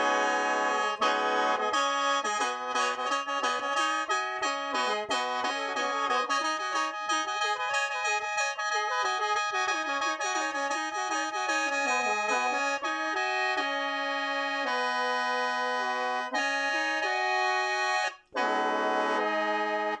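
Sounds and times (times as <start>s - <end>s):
bamboo mouth organ playing: 0.0s - 8.6s, 9.4s - 20.0s.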